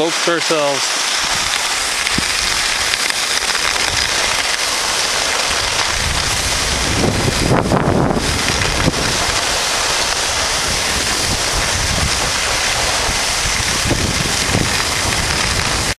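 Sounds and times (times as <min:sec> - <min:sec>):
skis hissing over snow: 0:00.0 - 0:16.0
wind buffeting microphone: 0:01.1 - 0:16.0.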